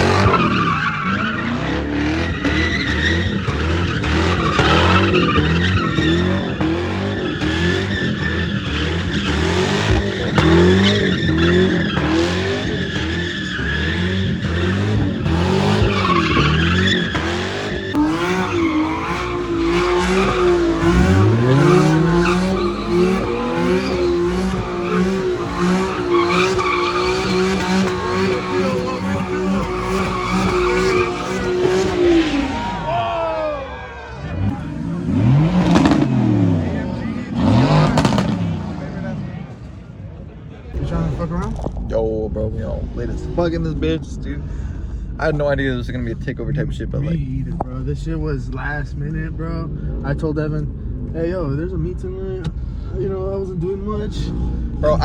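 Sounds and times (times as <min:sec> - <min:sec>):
tyres squealing and skidding: 0:00.0 - 0:51.3
car engine revving: 0:00.0 - 0:55.0.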